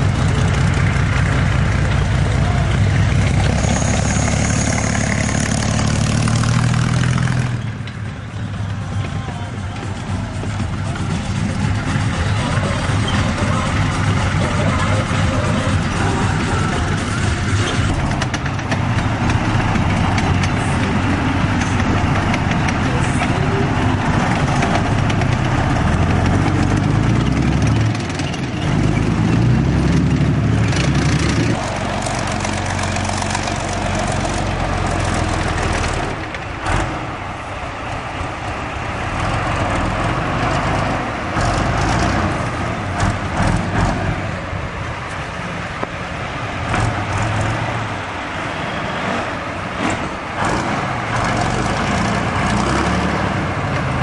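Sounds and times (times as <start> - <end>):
military vehicle engine revving: 0.0 - 54.0.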